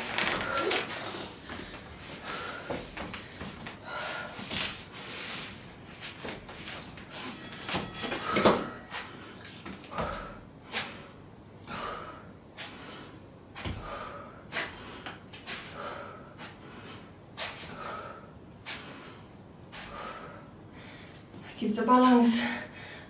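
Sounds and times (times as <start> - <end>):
woman breathing hard: 0.0 - 7.4, 8.0 - 21.4, 22.5 - 23.0.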